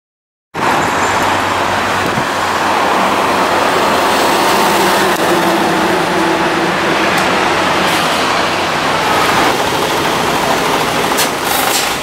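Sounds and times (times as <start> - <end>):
road traffic: 0.5 - 12.0
truck diesel engine running: 0.6 - 12.0.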